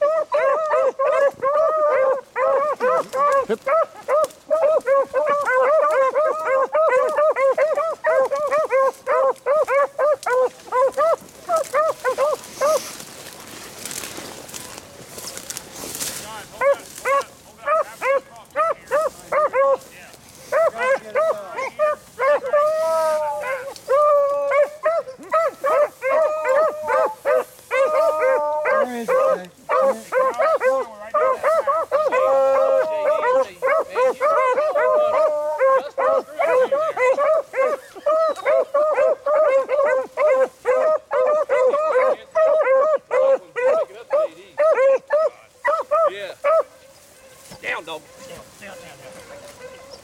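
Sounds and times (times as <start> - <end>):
lower-pitched dog barking: 0.0 - 13.0, 16.3 - 50.0
beagles baying in high yelps: 0.0 - 13.1, 16.5 - 50.0
brush rustling: 0.0 - 50.0.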